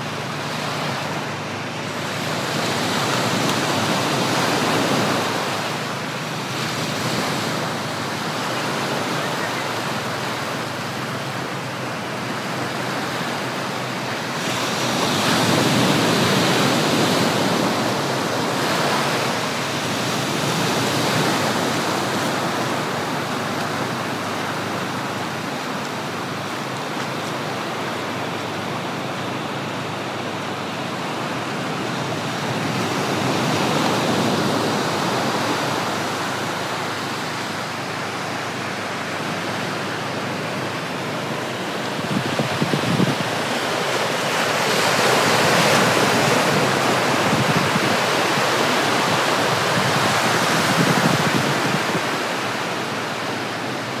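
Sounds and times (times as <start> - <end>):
ocean surf breaking on beach: 0.0 - 54.0.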